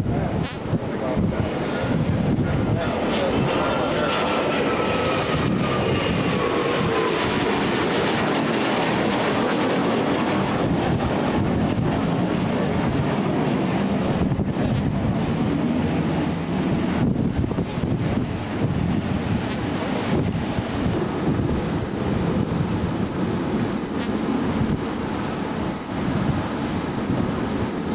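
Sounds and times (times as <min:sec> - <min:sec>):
jet fighter flying past: 0:00.1 - 0:27.9.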